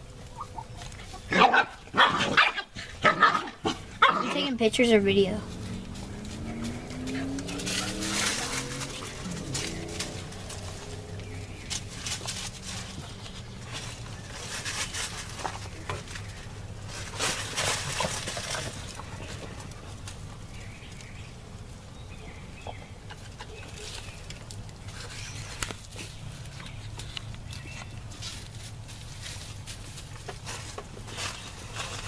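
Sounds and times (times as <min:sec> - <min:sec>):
chicken feet scratching litter: 0:00.0 - 0:21.6, 0:22.6 - 0:32.0
chickens clucking: 0:00.0 - 0:28.2
steady low hum: 0:00.0 - 0:32.0.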